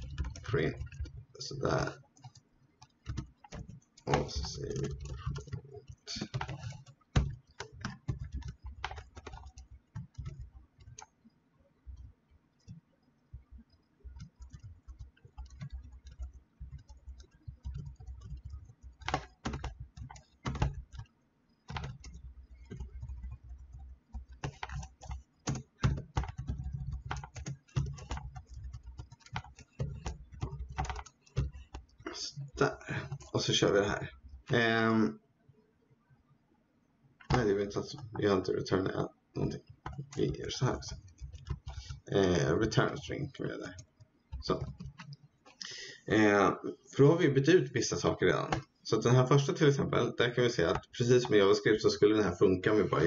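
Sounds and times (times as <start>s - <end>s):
typing on keyboard: 0.0s - 34.9s, 37.2s - 53.0s.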